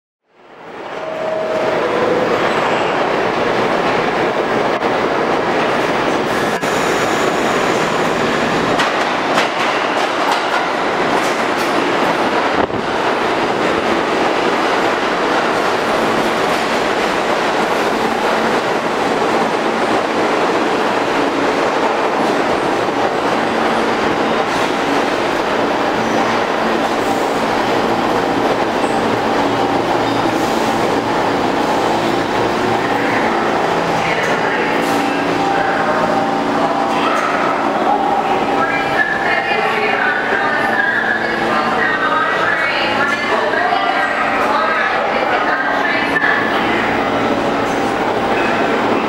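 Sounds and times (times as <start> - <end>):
steel wheels rumbling on rail: 0.6 - 49.0.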